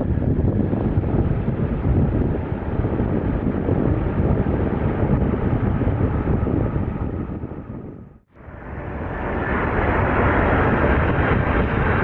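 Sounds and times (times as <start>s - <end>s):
jet engines roaring: 0.0s - 12.0s
wind buffeting microphone: 0.0s - 12.0s.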